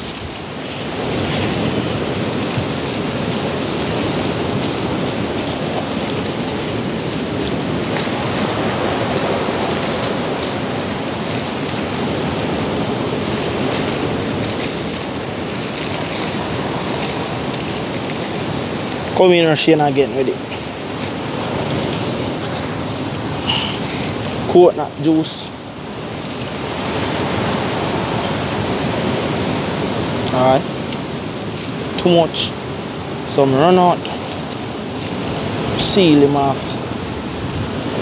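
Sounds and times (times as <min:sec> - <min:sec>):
aluminium foil crinkling: 0:00.0 - 0:38.0.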